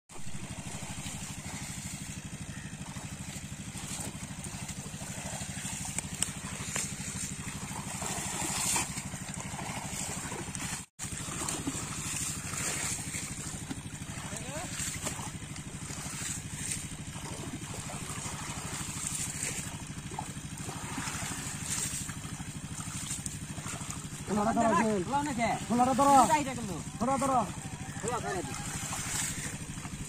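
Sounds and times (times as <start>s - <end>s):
small engine running: 0.1s - 30.0s
water splashes: 0.1s - 30.0s.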